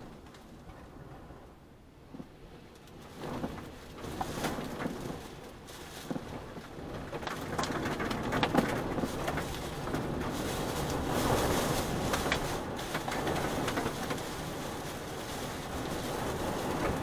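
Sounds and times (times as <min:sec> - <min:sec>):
storm wind gusting: 0:00.0 - 0:17.0
rain and debris ticking on car: 0:02.1 - 0:17.0.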